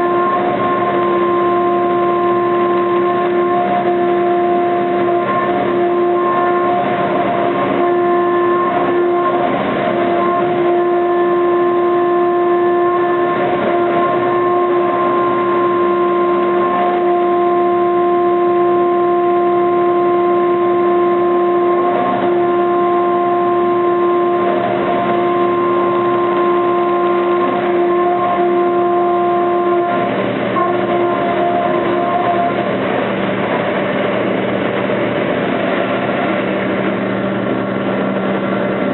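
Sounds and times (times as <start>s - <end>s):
milling machine cutting metal: 0.0s - 38.9s.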